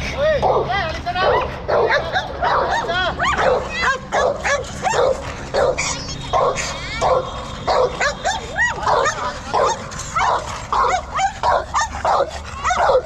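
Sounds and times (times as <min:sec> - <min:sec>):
dog barking and yelping: 0:00.4 - 0:13.0.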